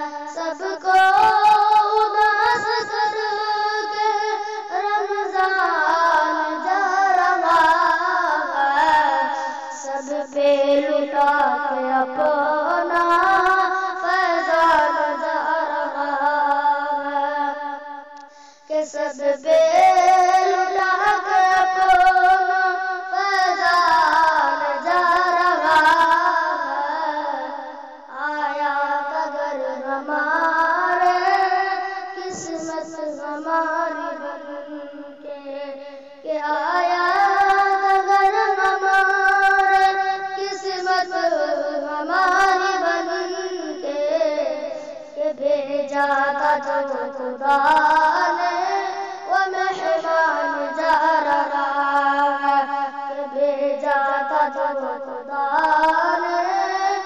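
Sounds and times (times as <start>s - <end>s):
boy singing: 0.0s - 57.0s.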